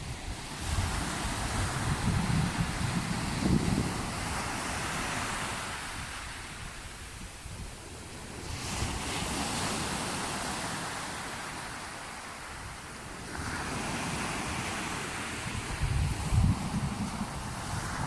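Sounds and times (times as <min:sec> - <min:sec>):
wind on microphone: 0:00.0 - 0:11.1, 0:12.5 - 0:18.0
sea waves washing in: 0:00.0 - 0:18.0.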